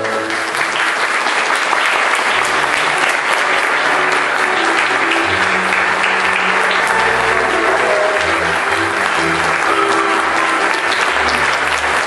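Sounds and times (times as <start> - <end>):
audience clapping: 0.0 - 12.0
music playing: 2.2 - 12.0.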